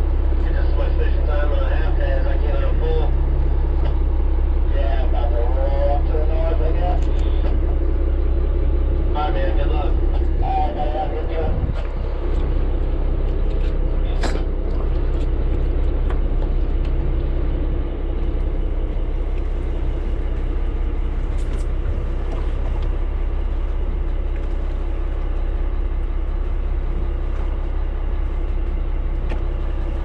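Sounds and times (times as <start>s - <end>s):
boat engine rumbling: 0.0s - 30.0s
water: 0.0s - 30.0s
wind: 0.0s - 30.0s.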